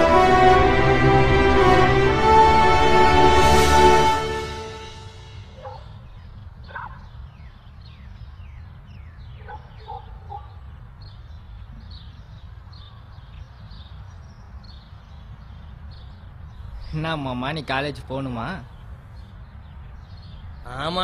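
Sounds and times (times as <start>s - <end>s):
birds chirping: 3.6s - 21.0s.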